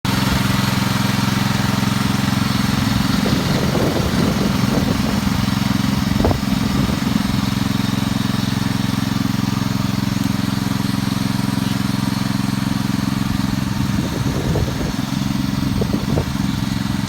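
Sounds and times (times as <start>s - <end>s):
garden tractor engine running: 0.0s - 17.0s.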